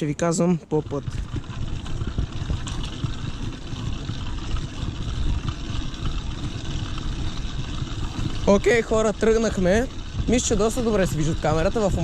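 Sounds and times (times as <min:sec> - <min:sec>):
irregular thumps: 0:00.6 - 0:12.0
wind on microphone: 0:00.9 - 0:12.0.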